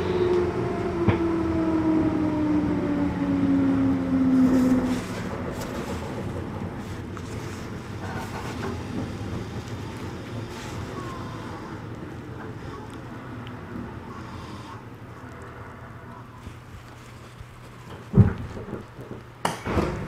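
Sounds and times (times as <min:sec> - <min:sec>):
train motor whine: 0:00.0 - 0:16.7
train rolling noise: 0:00.0 - 0:20.0.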